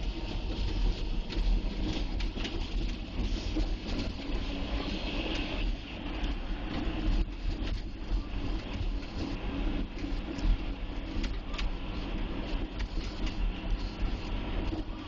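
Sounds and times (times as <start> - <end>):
diesel engine running under load: 0.0 - 15.0
plow pushing wet snow: 0.0 - 15.0.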